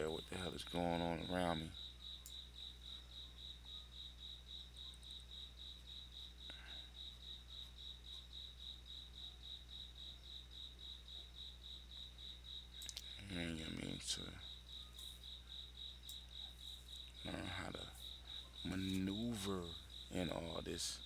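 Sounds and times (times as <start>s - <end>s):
cricket chirping: 0.0s - 21.0s
faint low hum: 0.0s - 21.0s.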